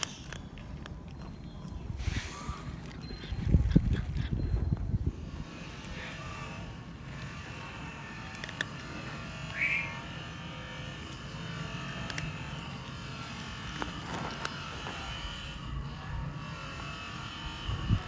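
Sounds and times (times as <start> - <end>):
cat crunching dry kibble: 0.0 - 4.6, 5.2 - 15.8.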